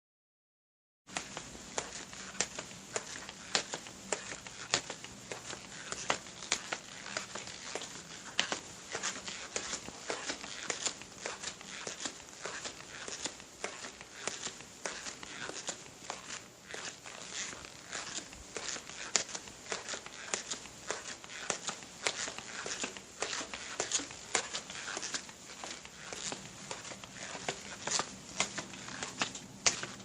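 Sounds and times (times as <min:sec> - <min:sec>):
footsteps crunching: 0:01.1 - 0:30.0.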